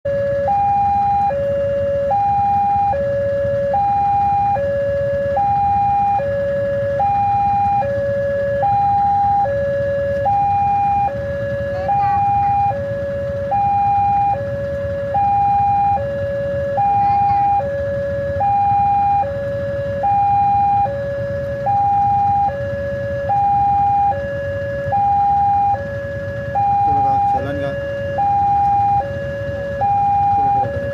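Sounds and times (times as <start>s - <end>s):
two-tone siren wail: 0.0s - 30.9s
steady low rumble: 0.1s - 30.9s.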